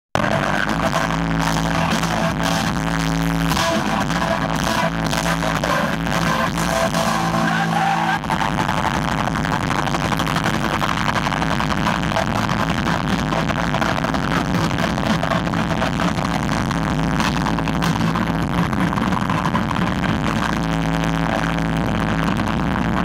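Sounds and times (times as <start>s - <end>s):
rock band playing loud: 0.2s - 23.0s.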